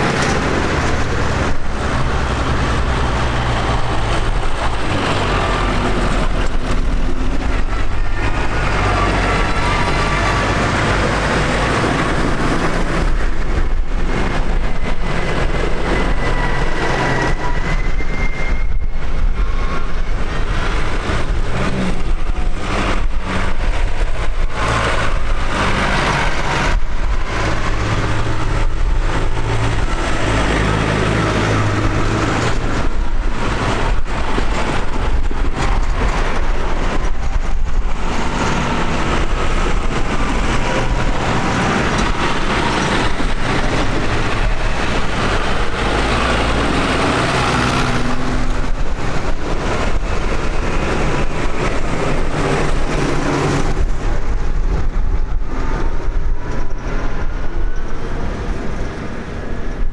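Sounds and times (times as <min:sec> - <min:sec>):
tractor engines droning: 0:00.0 - 0:59.9.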